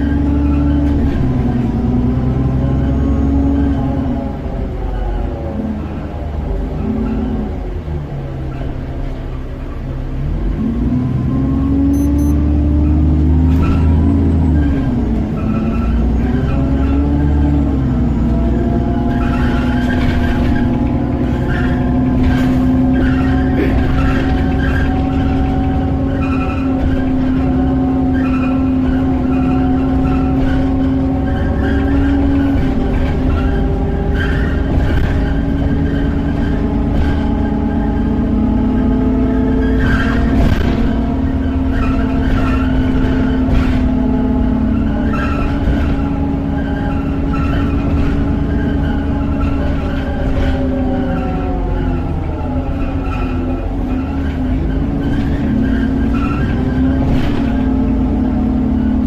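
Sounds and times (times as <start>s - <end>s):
bus engine drone: 0.0s - 59.0s
rattles inside bus: 0.0s - 59.0s.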